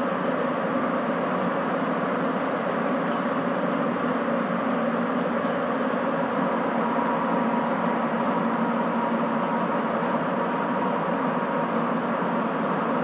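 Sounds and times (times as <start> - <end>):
train running in tunnel: 0.0 - 13.0.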